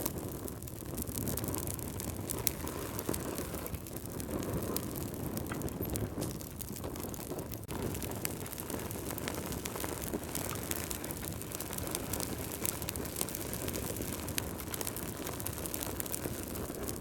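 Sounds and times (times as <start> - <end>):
logs crackling and popping: 0.0 - 17.0
low rush of flames: 0.0 - 17.0.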